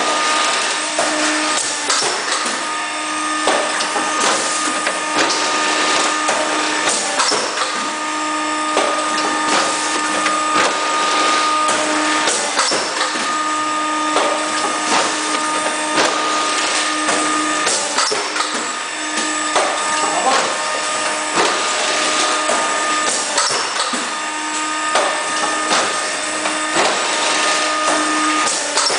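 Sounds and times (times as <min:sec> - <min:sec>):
machine motor whine: 0:00.0 - 0:28.9.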